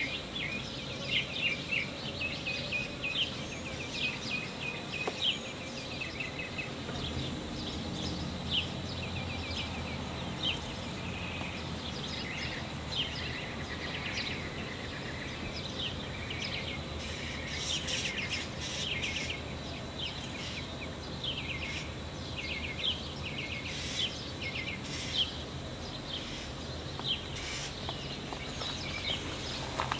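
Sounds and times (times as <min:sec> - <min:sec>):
songbirds chirping and trilling: 0:00.0 - 0:29.9.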